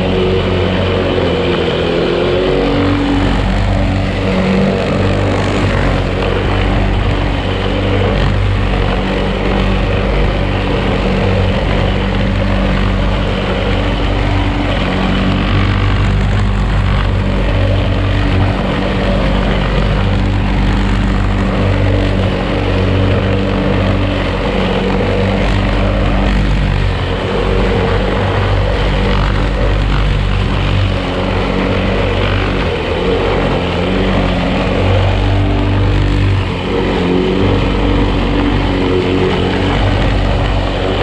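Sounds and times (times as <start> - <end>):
lawn mower cutting grass: 0.0 - 41.0.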